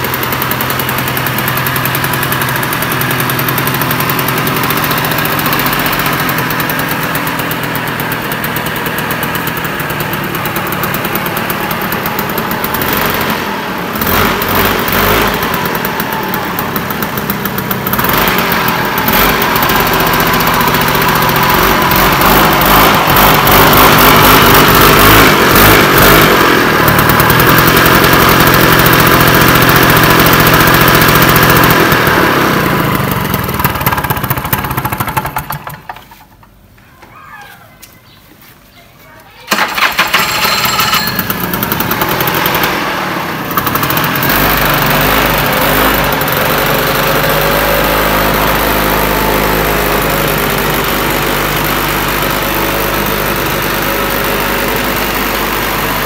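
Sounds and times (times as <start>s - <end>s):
scooter engine idling and revving: 0.0s - 36.7s, 39.4s - 56.0s.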